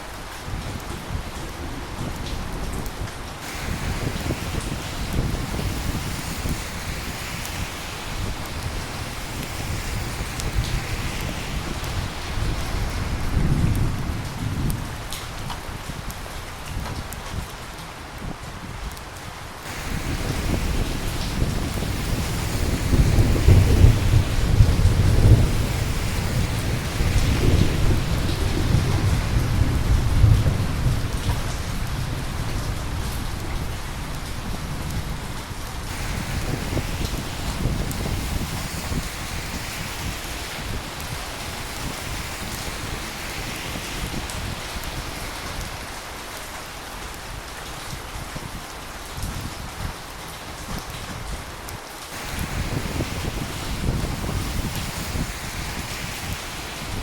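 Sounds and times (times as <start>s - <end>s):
rain falling: 0.0s - 57.0s
thunder rumbling: 0.8s - 15.9s, 19.7s - 47.2s, 52.1s - 57.0s.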